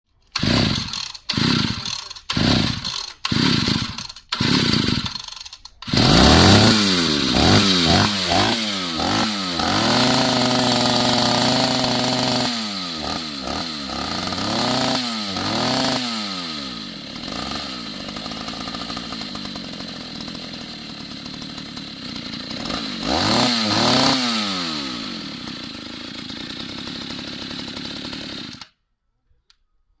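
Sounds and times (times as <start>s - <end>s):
chainsaw pull-starting and revving: 0.2s - 28.8s.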